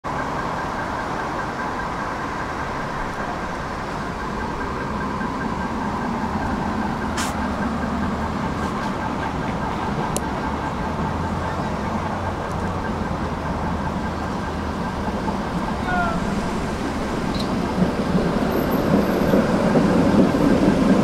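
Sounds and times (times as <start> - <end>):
tram low rumble: 0.0 - 21.0
tram electrical whine: 0.1 - 21.0.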